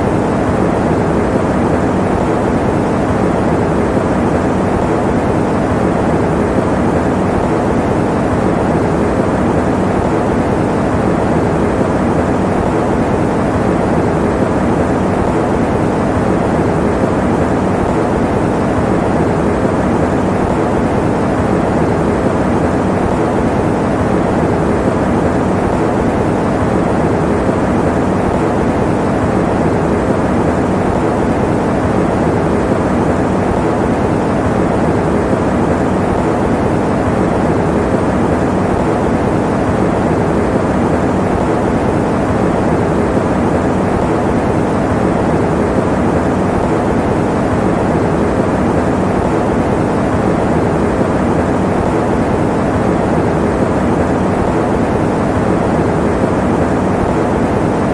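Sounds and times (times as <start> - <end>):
electric fan running: 0.0 - 57.9.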